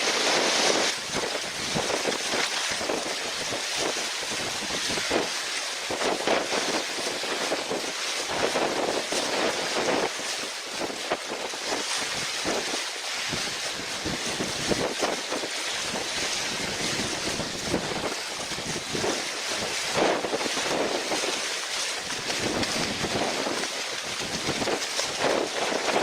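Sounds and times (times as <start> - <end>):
water splashing and rushing: 0.0 - 26.0
wind buffeting microphone: 0.0 - 26.0.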